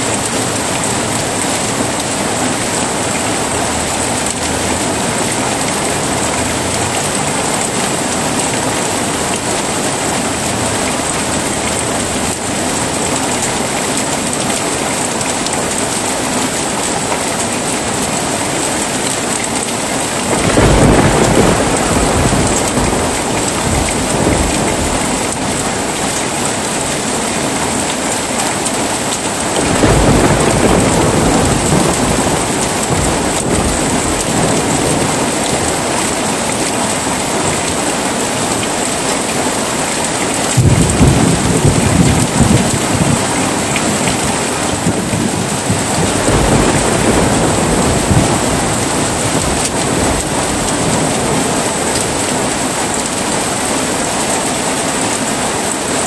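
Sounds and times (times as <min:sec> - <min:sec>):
thunder rumbling: 0:00.0 - 0:39.1, 0:40.1 - 0:54.4
heavy rain: 0:00.0 - 0:56.0.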